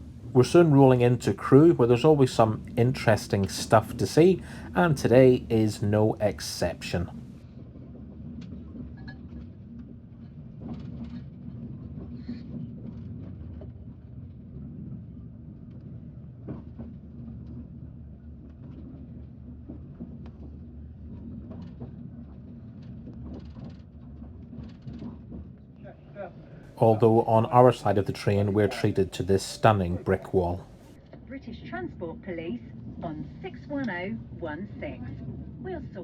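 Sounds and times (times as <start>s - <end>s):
train rumbling inside carriage: 0.0s - 25.6s, 26.7s - 31.0s, 32.7s - 36.0s.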